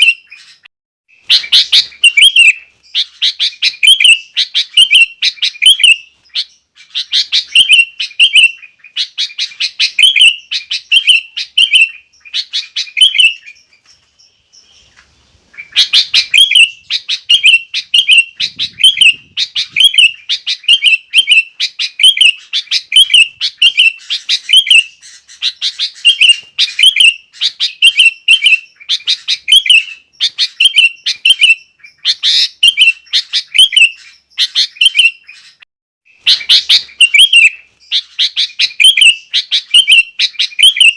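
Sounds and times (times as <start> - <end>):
bird singing fast chirping phrases: 0.0 - 40.9.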